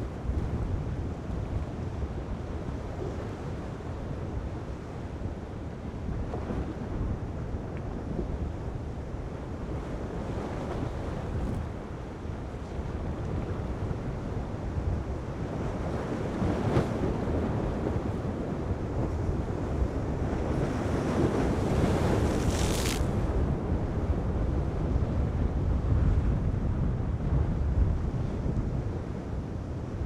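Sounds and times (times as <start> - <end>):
surf and breaking waves: 0.0 - 30.0
wind buffeting microphone: 0.0 - 30.0.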